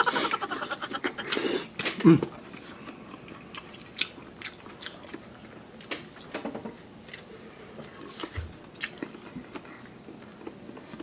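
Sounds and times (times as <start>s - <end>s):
chewing food: 1.0s - 6.4s, 7.0s - 11.0s.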